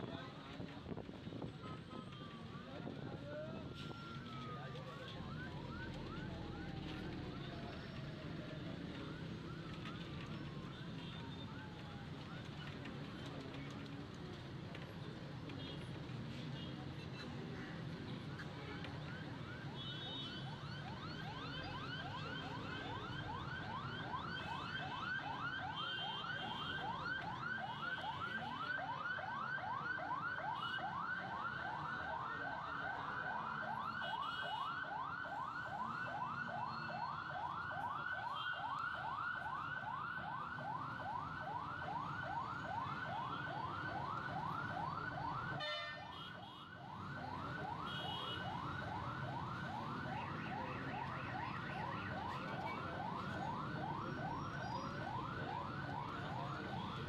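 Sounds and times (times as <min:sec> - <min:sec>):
low hum of traffic engines: 0:00.0 - 0:57.0
ambulance siren yelping: 0:01.4 - 0:12.8, 0:18.9 - 0:57.0.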